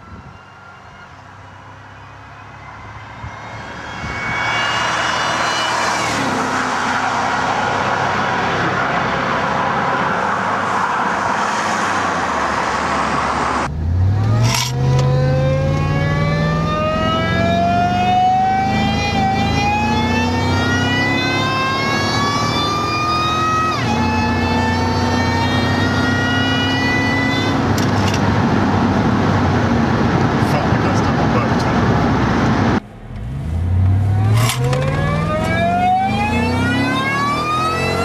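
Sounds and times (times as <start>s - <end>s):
pickup engine accelerating: 1.2s - 38.0s.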